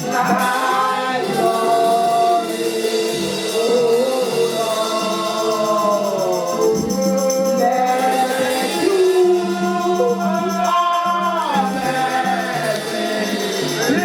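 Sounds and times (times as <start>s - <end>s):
gospel singing voices: 0.0s - 14.0s
instrumental accompaniment with bass: 0.0s - 14.0s.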